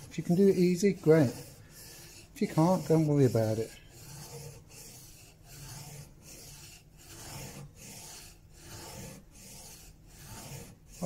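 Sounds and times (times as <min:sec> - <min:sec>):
chisel scraping on sharpening stone: 0:00.0 - 0:11.0.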